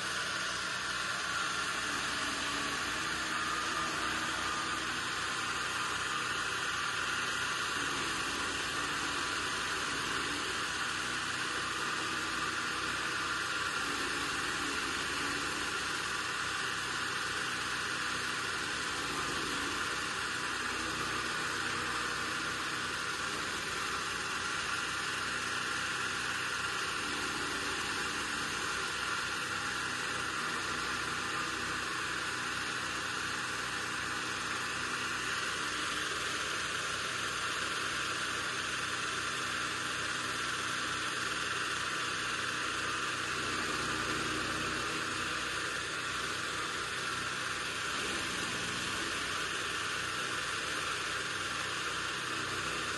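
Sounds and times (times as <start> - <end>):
chaff cutter machine whirring: 0.0 - 52.9.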